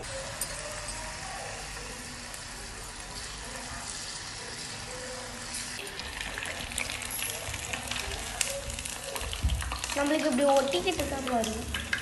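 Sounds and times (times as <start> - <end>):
oil bubbling and hissing: 0.0 - 12.0.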